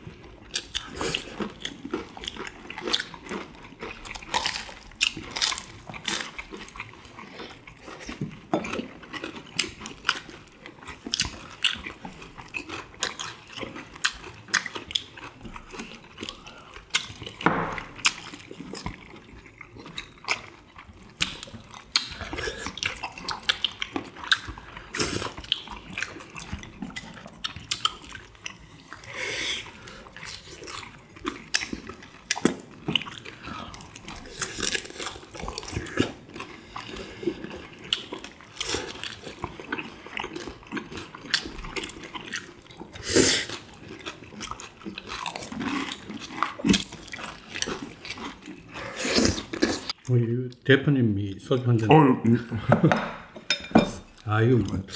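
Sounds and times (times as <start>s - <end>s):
chewing and slurping: 0.0s - 50.0s.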